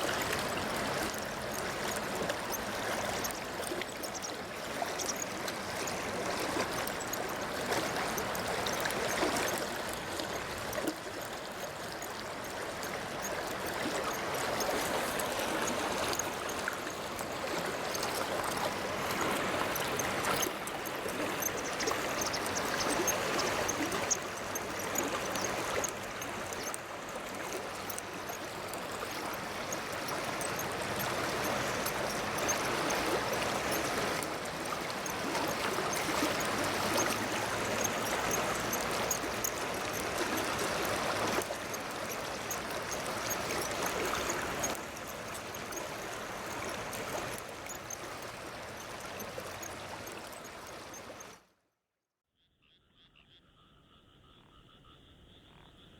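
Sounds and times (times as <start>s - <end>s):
water running and gurgling: 0.0s - 51.3s.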